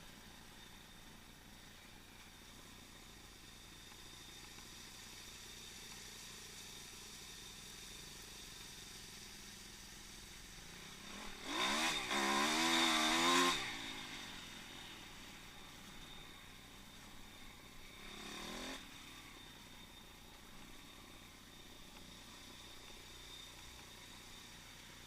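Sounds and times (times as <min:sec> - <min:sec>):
faint steady background noise: 0:00.0 - 0:25.0
small motorbike engine revving: 0:03.9 - 0:25.0.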